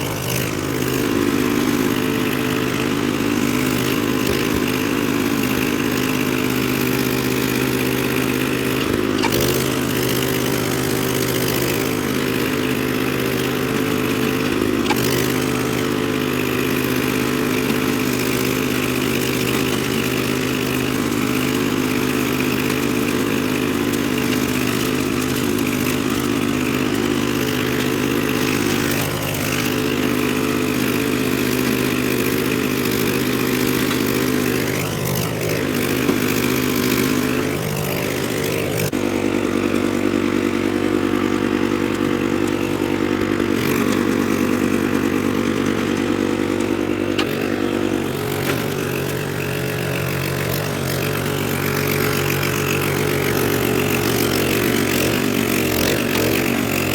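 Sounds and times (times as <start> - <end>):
rototiller engine running: 0.0 - 56.9.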